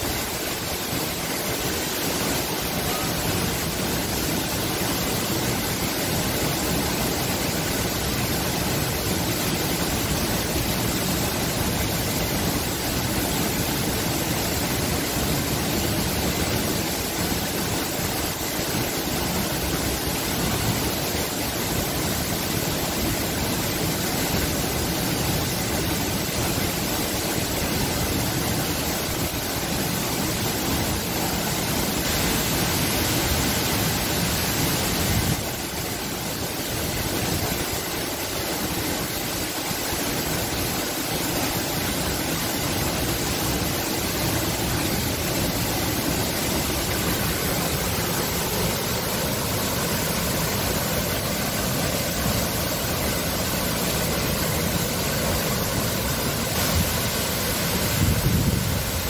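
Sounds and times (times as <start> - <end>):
waterfalls rushing into pool: 0.0 - 59.0.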